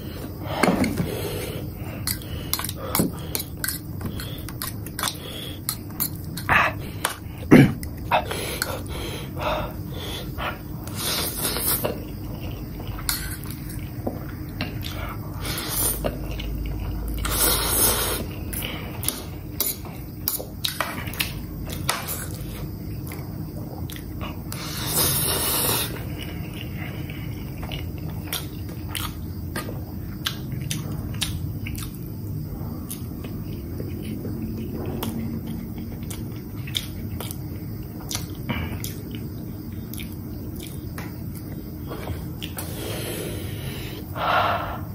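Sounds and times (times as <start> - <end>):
person chewing: 0.1 - 43.4.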